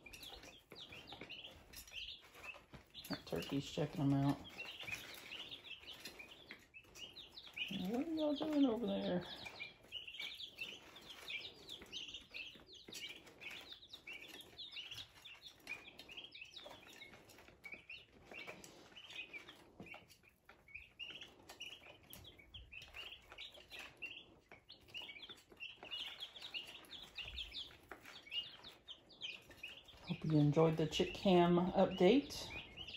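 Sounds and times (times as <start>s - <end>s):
chicks peeping: 0.0s - 32.9s.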